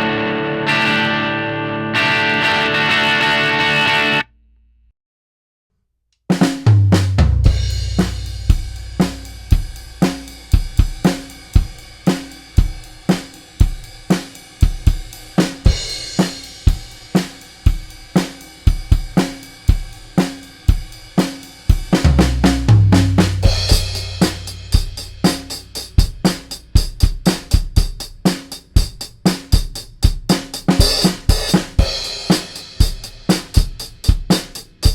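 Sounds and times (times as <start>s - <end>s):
drum kit playing a beat: 6.3s - 34.9s.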